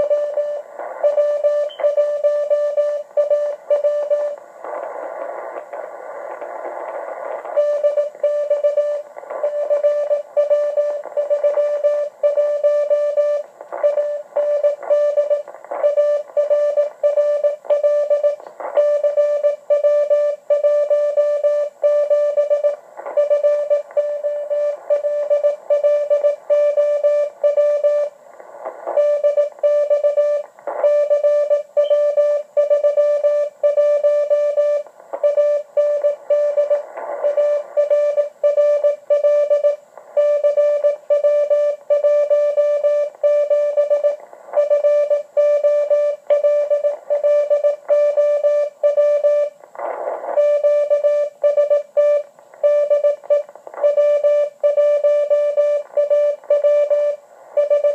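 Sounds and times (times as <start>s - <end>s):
radio hiss: 0.0s - 1.9s, 3.0s - 20.5s, 21.6s - 31.8s, 34.6s - 41.1s, 43.1s - 54.6s, 55.8s - 57.9s
morse code tone: 0.0s - 4.4s, 7.6s - 28.1s, 29.0s - 49.5s, 50.4s - 57.9s.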